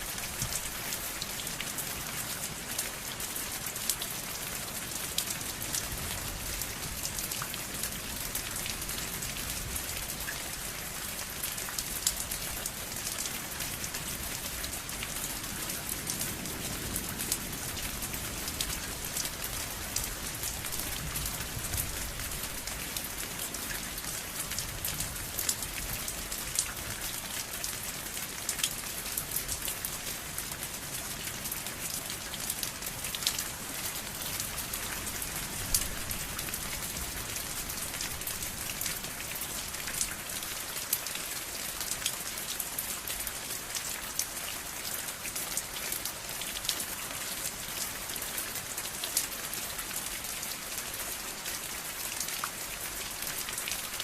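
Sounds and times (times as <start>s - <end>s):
rain pattering on surface: 0.0s - 54.0s.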